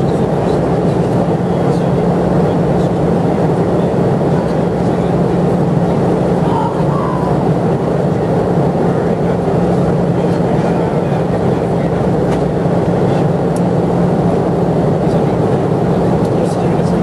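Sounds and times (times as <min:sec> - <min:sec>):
aircraft engine and airflow roar: 0:00.0 - 0:17.0
constant low hum: 0:00.0 - 0:17.0.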